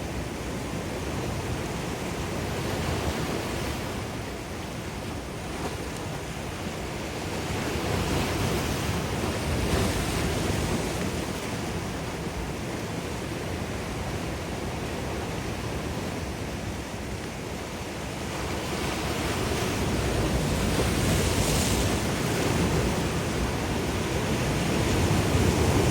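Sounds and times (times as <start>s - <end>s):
ocean waves breaking: 0.1s - 17.2s, 17.9s - 25.9s.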